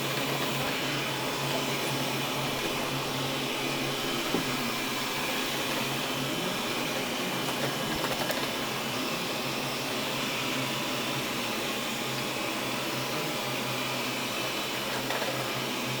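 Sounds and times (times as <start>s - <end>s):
robot vacuum cleaner whirring: 0.0s - 16.0s.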